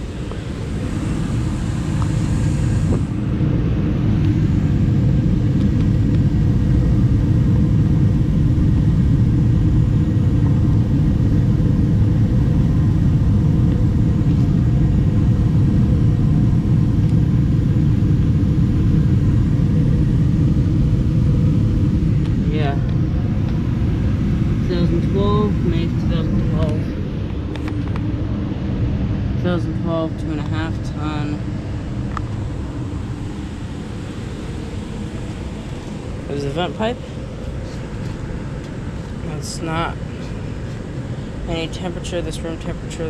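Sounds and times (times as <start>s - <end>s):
gas furnace low rumble: 0.0s - 43.0s.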